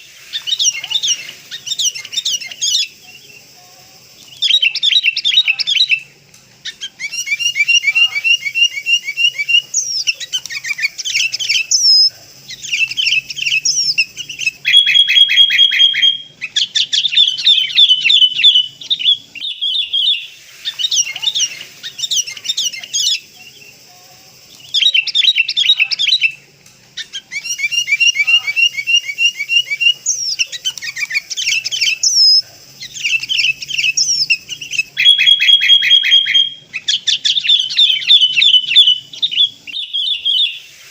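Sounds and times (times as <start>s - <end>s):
bird chirping and whistling: 0.0s - 3.0s, 4.3s - 6.0s, 6.7s - 23.3s, 24.6s - 26.4s, 27.0s - 40.7s.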